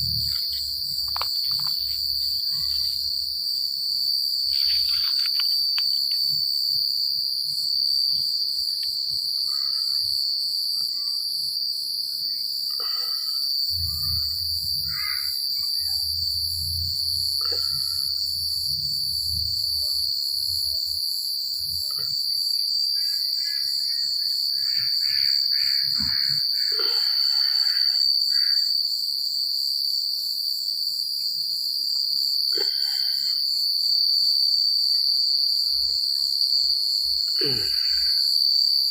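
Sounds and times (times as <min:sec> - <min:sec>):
crickets trilling: 0:00.0 - 0:38.9
rapidly pulsing insect song: 0:00.0 - 0:38.9.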